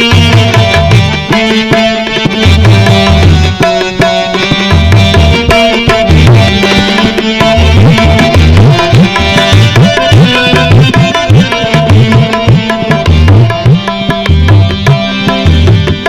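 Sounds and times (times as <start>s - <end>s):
held instrumental melody: 0.0s - 16.0s
tabla rhythm: 0.0s - 16.0s.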